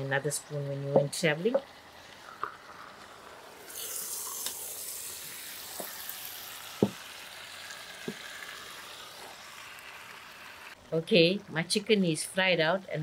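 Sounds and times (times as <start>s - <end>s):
chicken sizzling in oil: 0.0s - 11.4s.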